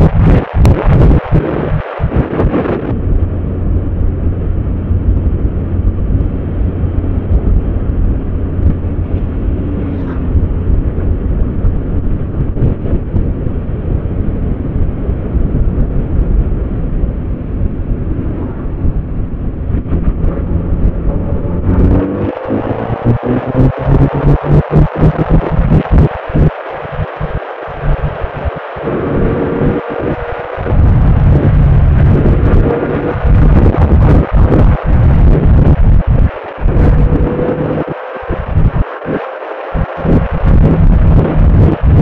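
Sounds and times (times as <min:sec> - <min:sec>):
motorcycle engine running: 0:00.0 - 0:39.2, 0:39.8 - 0:42.0
wind buffeting microphone: 0:00.0 - 0:42.0.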